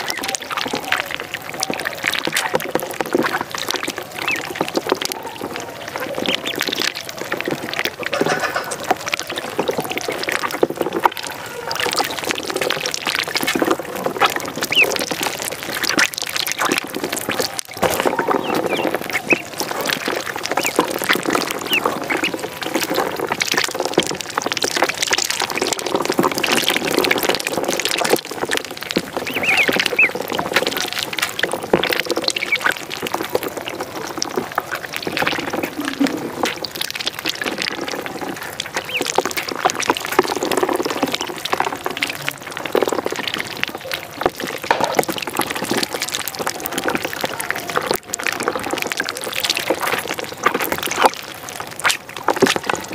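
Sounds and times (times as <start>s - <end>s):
ducklings peeping: 0.0s - 51.2s
light water splashing: 0.0s - 52.9s.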